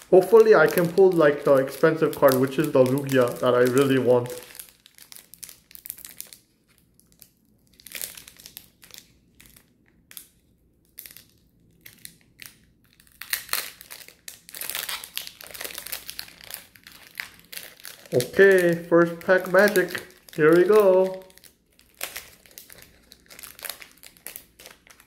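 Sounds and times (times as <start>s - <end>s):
foil wrappers crinkling: 0.0s - 25.0s.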